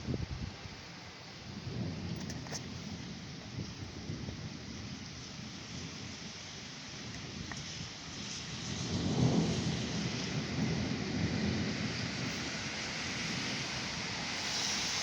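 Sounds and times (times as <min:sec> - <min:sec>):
rain hissing: 0:00.0 - 0:15.0
thunder rumbling: 0:01.6 - 0:15.0.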